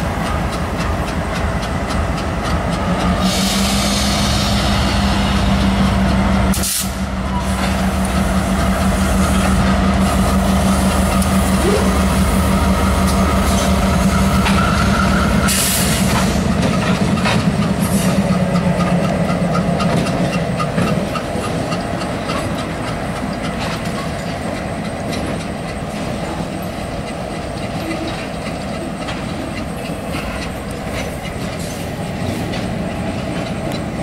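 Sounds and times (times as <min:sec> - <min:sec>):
diesel locomotive engine drone: 0:00.0 - 0:34.0
train wheels clicking over rail joints: 0:00.0 - 0:34.0.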